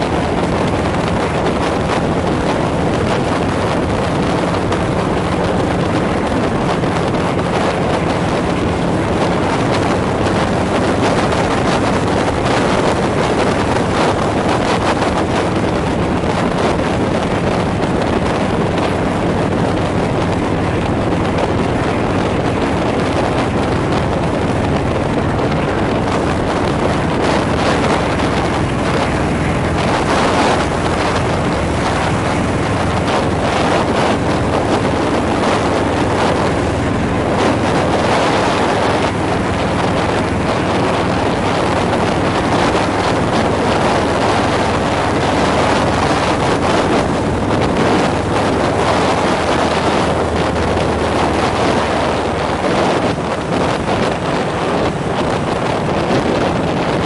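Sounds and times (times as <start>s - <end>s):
engine drone: 0.0s - 57.0s
wind rush on microphone: 0.0s - 57.0s.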